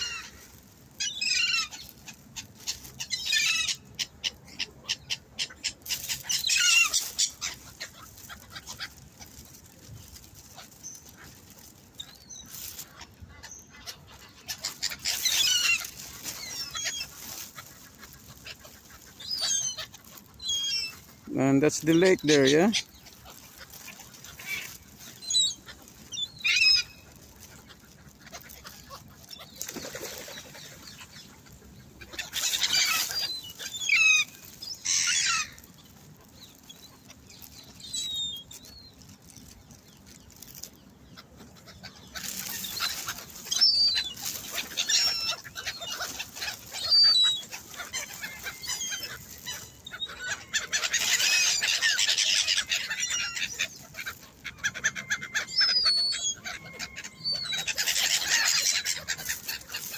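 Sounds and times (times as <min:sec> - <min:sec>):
gulls calling: 0:00.0 - 0:59.9
wings flapping and squabbling: 0:00.0 - 0:59.9.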